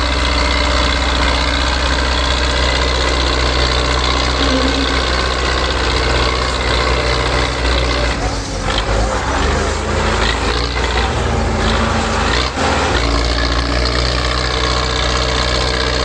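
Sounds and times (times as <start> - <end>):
tractor diesel engines running hard: 0.0 - 16.0.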